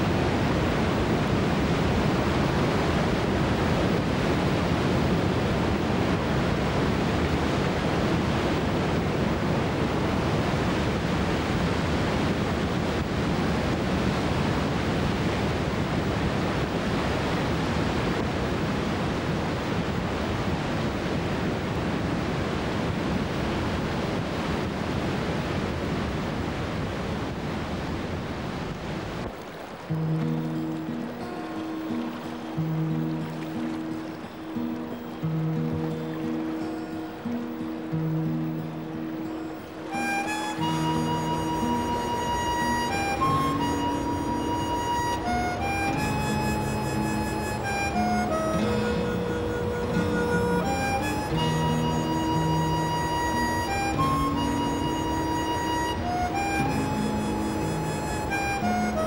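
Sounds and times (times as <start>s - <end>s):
whitewater rapids roaring: 0.0s - 59.0s.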